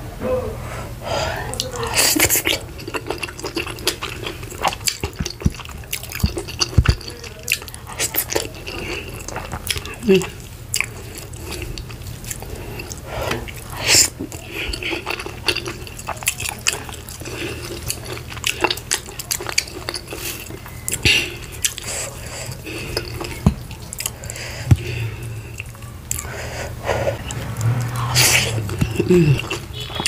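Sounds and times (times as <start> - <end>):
wet chewing and lip smacks: 1.5 - 26.4, 27.2 - 30.0.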